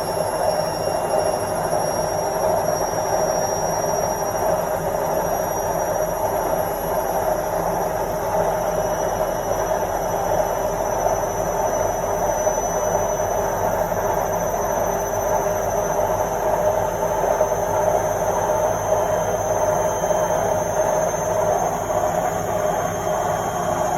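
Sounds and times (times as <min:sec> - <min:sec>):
washing machine spinning: 0:00.0 - 0:23.9.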